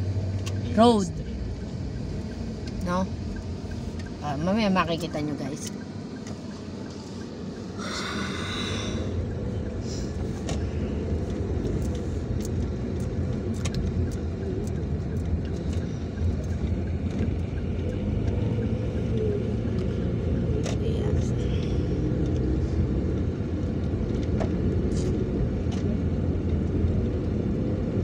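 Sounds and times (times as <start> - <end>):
road noise: 0.0 - 28.0
vehicle engine rumble: 0.0 - 28.0.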